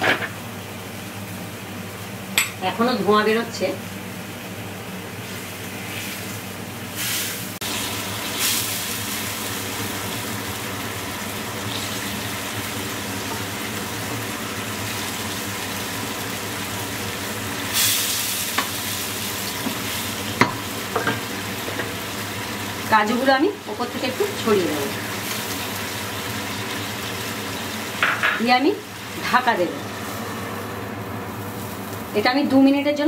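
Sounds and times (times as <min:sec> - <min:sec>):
meat sizzling in gravy: 0:05.1 - 0:32.3.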